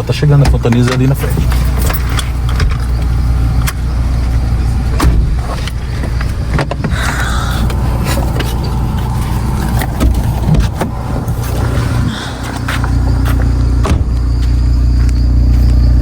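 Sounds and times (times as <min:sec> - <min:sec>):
knocks and rattles: 0:00.0 - 0:14.6
car engine and tyres rumbling: 0:00.0 - 0:16.0.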